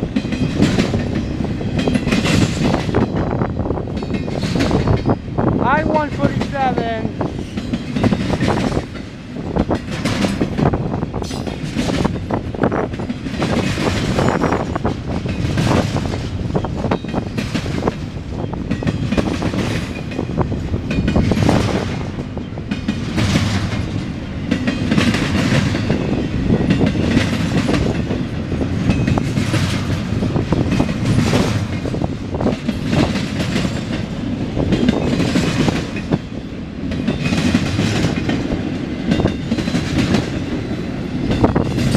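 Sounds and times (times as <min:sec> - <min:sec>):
freight train cars rolling past: 0:00.0 - 0:41.9
wheels clacking over rail joints: 0:00.0 - 0:41.9.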